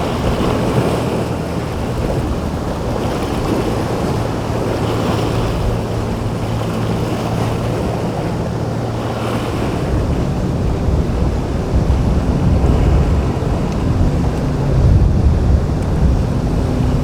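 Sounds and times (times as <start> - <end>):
boat engine humming: 0.0 - 17.0
waves: 0.0 - 17.0
wind buffeting microphone: 0.0 - 17.0.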